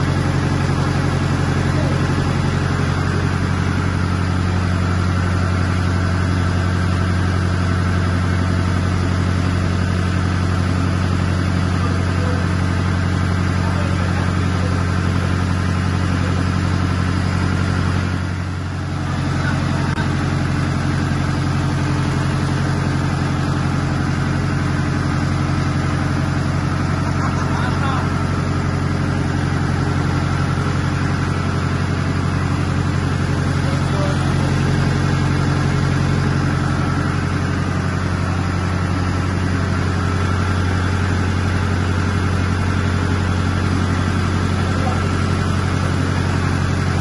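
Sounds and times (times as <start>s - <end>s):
engine room machinery drone: 0.0s - 47.0s.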